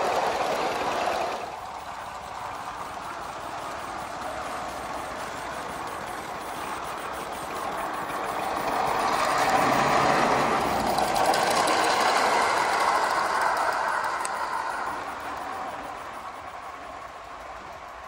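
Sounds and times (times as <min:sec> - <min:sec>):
steam locomotive exhaust beat: 0:00.0 - 0:18.0.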